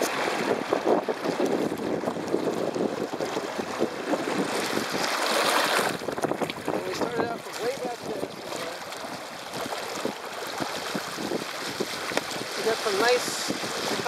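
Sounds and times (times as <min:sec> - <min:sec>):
water rushing along a hull: 0:00.0 - 0:14.0
wind buffeting microphone: 0:00.0 - 0:14.0.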